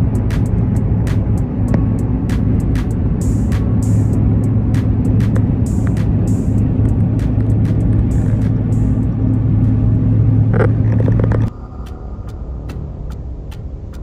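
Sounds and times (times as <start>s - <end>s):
quiet low vehicle hum: 0.0s - 14.0s
vehicle droning at highway speed: 0.0s - 14.0s.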